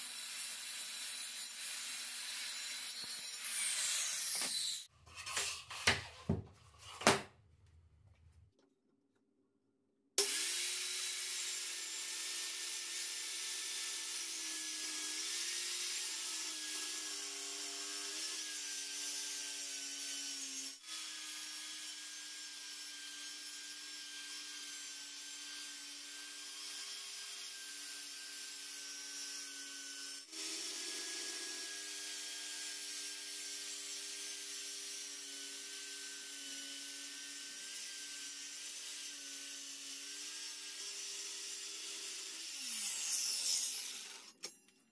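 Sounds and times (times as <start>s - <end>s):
circular saw cutting wood: 0.0s - 5.5s, 10.2s - 44.6s.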